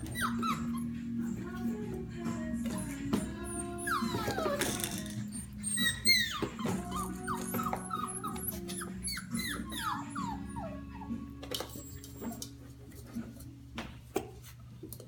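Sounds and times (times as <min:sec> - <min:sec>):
puppies whining and yipping: 0:00.0 - 0:13.4.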